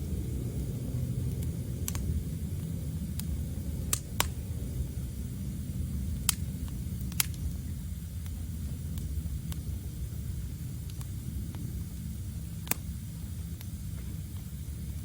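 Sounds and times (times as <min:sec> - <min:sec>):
low steady rumble: 0:00.0 - 0:15.0
wood fire crackling pops: 0:00.0 - 0:15.0.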